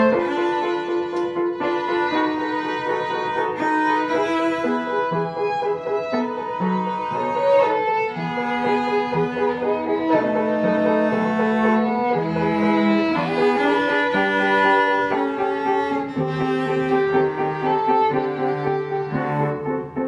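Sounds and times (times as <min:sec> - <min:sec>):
cello held notes: 0:00.0 - 0:20.0
violin melody: 0:00.0 - 0:20.0.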